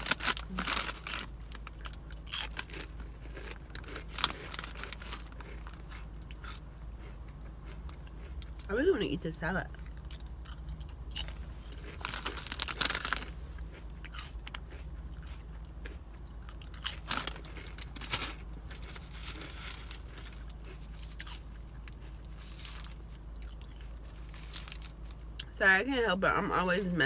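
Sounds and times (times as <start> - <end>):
crunching chips: 0.0 - 8.7, 9.7 - 25.5
steady low hum: 0.0 - 27.0.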